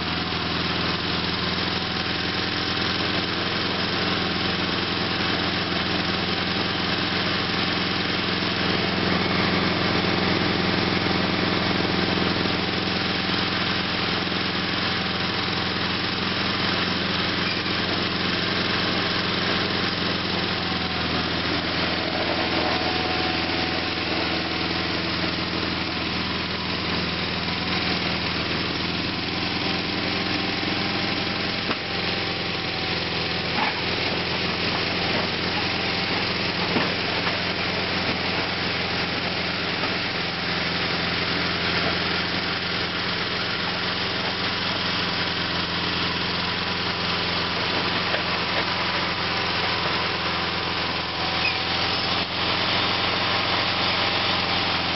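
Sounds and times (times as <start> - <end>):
garden tractor engine running: 0.0 - 54.9.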